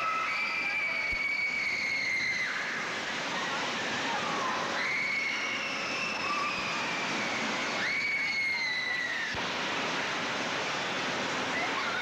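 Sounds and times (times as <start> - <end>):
noisy din of ride: 0.0 - 12.0.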